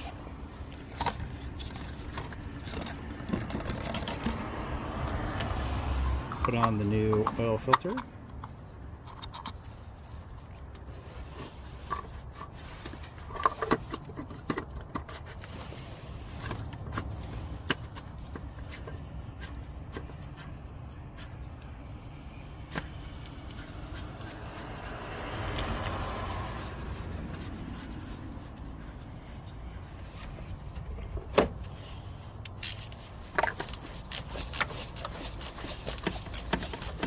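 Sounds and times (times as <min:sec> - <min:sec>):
light clicks and scrapes: 0:00.0 - 0:21.8, 0:22.5 - 0:37.0.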